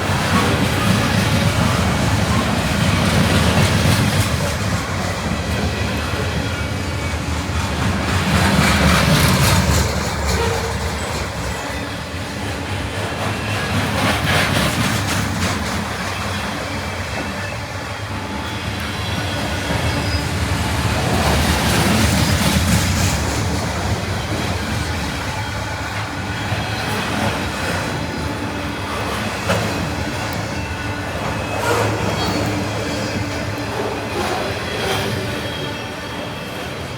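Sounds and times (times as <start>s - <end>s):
train wheels rumbling on rails: 0.0s - 36.9s
wheel squeal: 5.5s - 12.0s, 13.4s - 36.9s.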